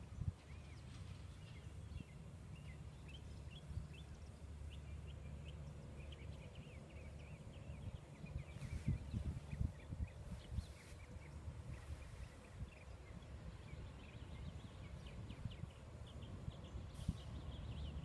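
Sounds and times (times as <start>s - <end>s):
faint low rumble: 0.0s - 18.0s
small birds chirping: 0.0s - 18.0s.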